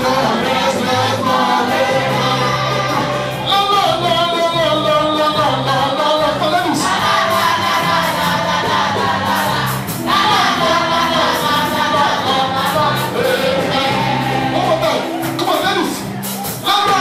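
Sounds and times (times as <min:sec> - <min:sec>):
beat and bass: 0:00.0 - 0:17.0
congregation singing gospel: 0:00.0 - 0:17.0.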